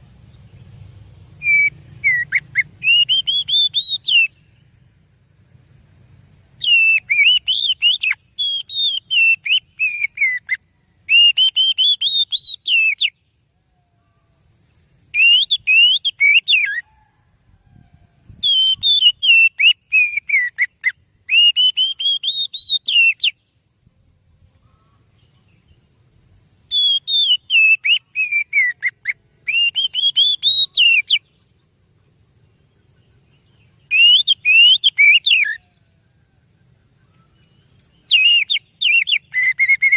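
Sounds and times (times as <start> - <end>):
bird singing whistled notes: 0.0 - 17.7, 18.3 - 23.6, 24.7 - 39.9.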